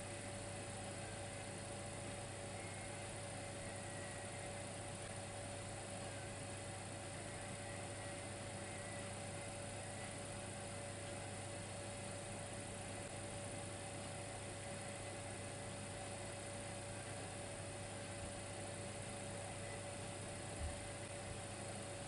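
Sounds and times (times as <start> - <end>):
electric fireplace humming: 0.0 - 22.0.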